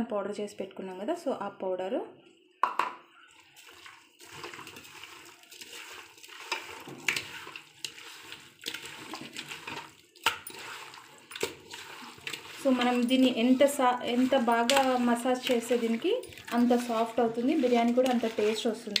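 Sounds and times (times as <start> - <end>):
hand squelching wet meat: 3.5 - 19.0.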